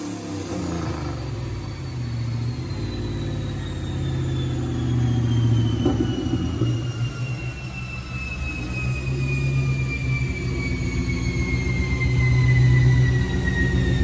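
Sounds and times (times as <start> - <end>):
high whine sliding down: 0.0 - 14.0
low engine note: 0.0 - 14.0.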